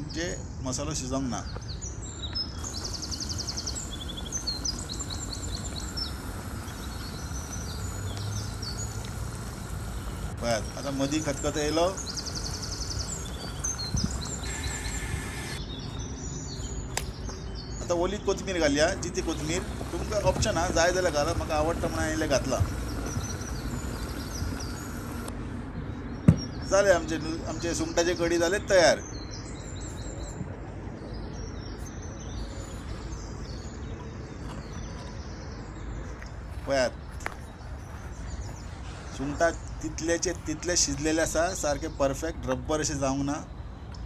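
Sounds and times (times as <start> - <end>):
birds chirping: 0.0 - 44.0
outdoor background noise: 0.0 - 44.0.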